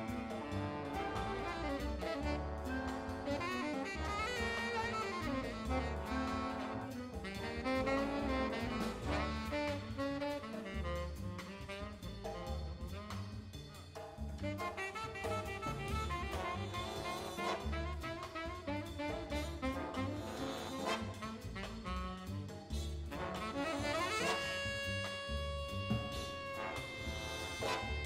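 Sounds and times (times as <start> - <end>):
tenor saxophone solo: 0.0 - 13.5, 14.4 - 28.0
brass section playing: 0.0 - 13.8, 14.4 - 28.0
drum kit: 0.0 - 28.0
walking upright bass: 0.0 - 28.0.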